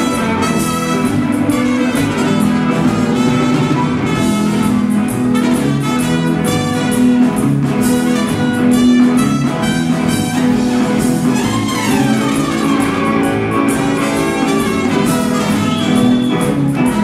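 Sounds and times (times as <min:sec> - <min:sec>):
electric guitar: 0:00.0 - 0:17.0
live band playing: 0:00.0 - 0:17.0
steady drum beat: 0:00.0 - 0:17.0
trumpets holding notes: 0:00.0 - 0:17.0.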